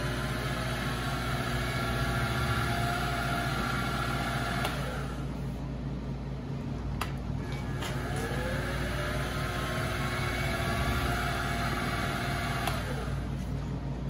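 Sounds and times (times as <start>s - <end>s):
mill motor hum: 0.0s - 14.0s.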